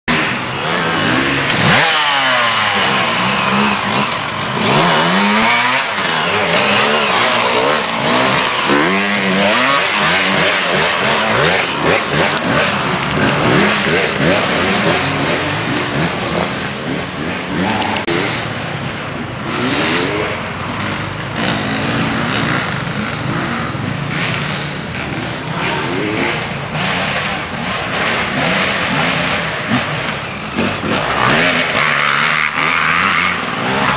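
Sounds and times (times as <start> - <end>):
dirt bike engines revving: 0.1 - 33.9.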